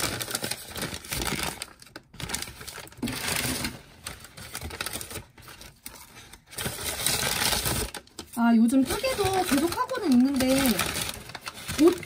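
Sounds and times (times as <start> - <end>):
paper bag rustling and crinkling: 0.0 - 12.0.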